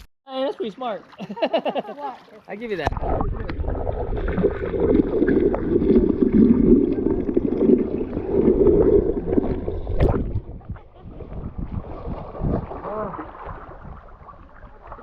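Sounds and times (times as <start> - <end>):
water sloshing and gurgling: 0.5 - 15.0.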